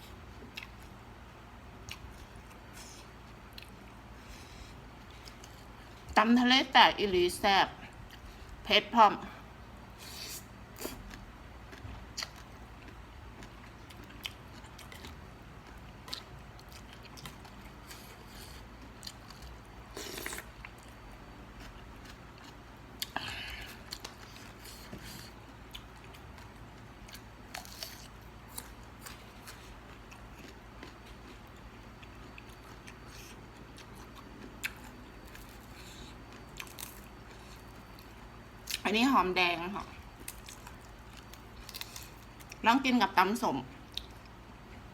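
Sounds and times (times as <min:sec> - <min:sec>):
person chewing food: 0:00.0 - 0:01.0, 0:01.6 - 0:06.1, 0:10.0 - 0:38.8, 0:40.0 - 0:42.6, 0:43.7 - 0:44.9.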